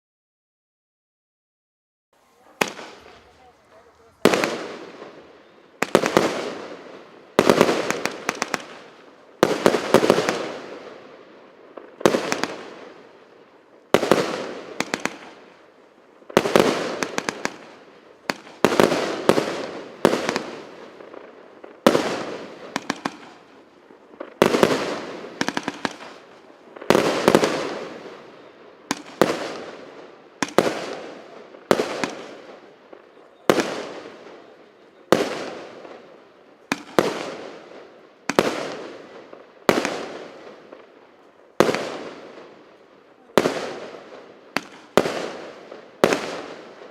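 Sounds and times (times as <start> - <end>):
firework bangs: 2.2 - 46.9
firework crackle: 2.2 - 46.9.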